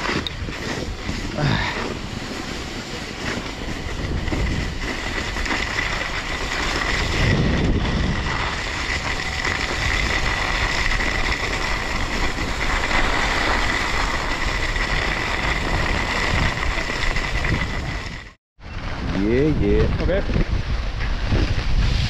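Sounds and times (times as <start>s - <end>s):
snow blades scraping snow: 0.0s - 19.3s, 21.0s - 22.0s
wind on microphone: 0.0s - 22.0s.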